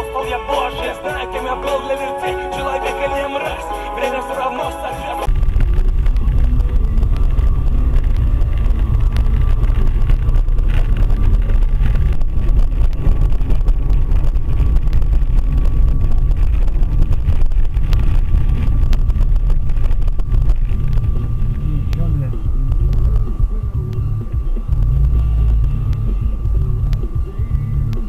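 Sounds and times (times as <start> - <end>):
car driving on rough road: 5.3 - 28.0.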